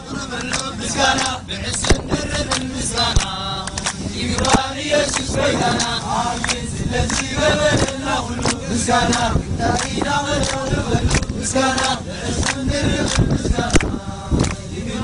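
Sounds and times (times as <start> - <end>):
men chanting together: 0.0 - 15.0
motor boat running: 0.0 - 15.0.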